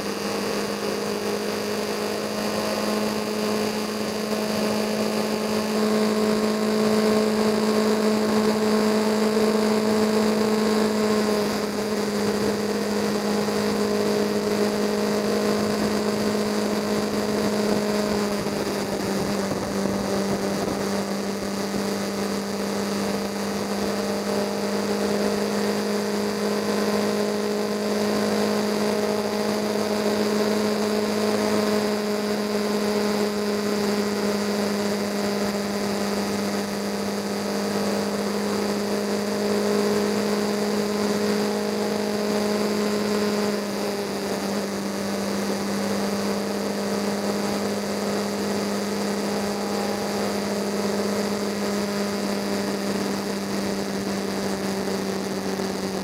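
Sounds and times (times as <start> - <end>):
motorcycle engine droning: 0.0 - 56.0
road and wind noise: 0.0 - 56.0.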